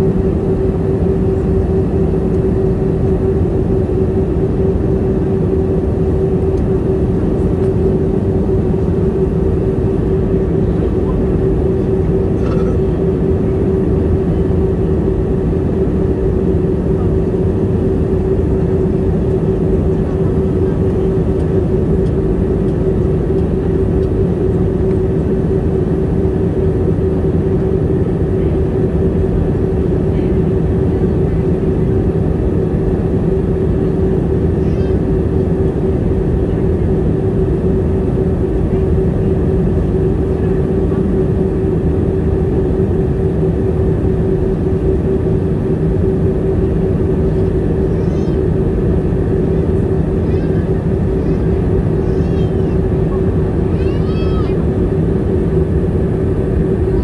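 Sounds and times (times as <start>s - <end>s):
jet cabin drone: 0.0s - 57.0s
steady hum tone: 0.0s - 57.0s.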